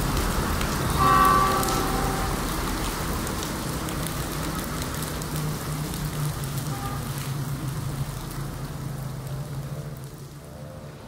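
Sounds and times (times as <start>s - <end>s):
train engine hum: 0.0s - 9.9s
heavy rain on rails: 0.0s - 11.0s.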